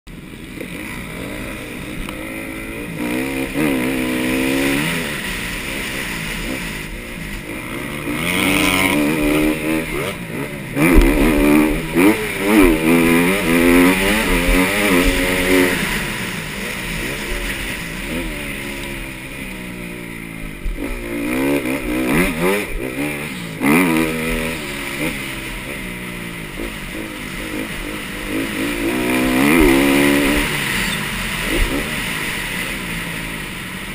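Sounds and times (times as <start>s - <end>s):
motocross bike engine revving: 0.2s - 33.9s.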